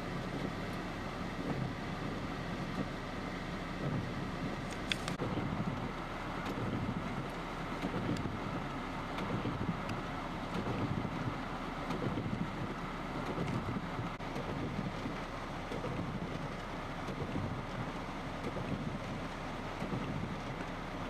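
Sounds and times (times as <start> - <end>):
wind buffeting microphone: 3.7 - 20.8.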